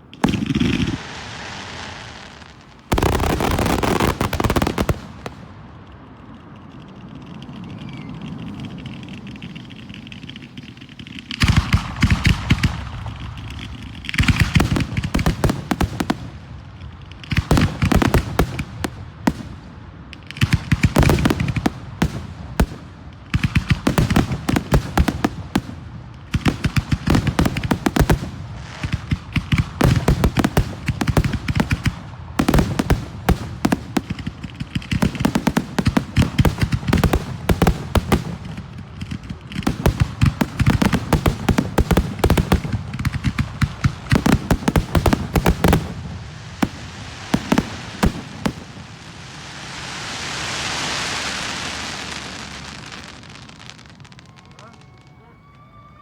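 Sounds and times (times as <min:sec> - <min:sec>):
fireworks crackling bangs: 0:00.0 - 0:56.0.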